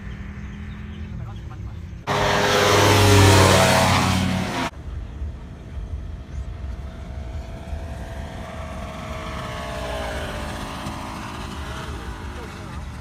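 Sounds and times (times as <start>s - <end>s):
close engine sound: 0.0s - 13.0s
paramotor engine droning overhead: 0.0s - 13.0s.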